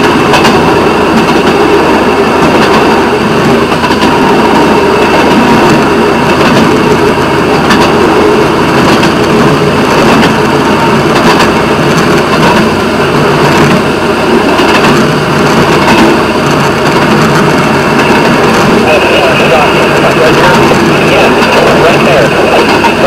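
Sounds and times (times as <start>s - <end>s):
rail vehicle engine drone: 0.0s - 23.0s
wheel noise on rails: 0.0s - 23.0s.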